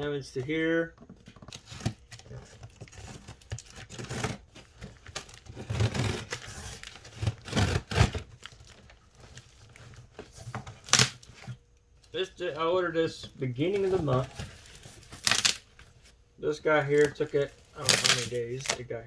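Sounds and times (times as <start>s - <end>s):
packaging crinkling and tearing: 1.3s - 12.1s, 13.6s - 16.2s, 16.8s - 19.0s.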